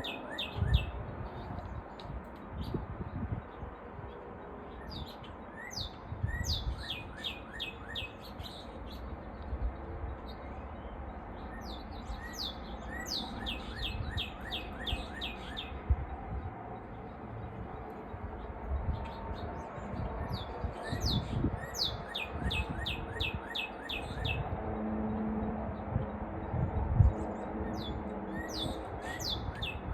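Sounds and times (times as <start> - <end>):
songbird singing: 0.0 - 24.6, 27.1 - 29.9.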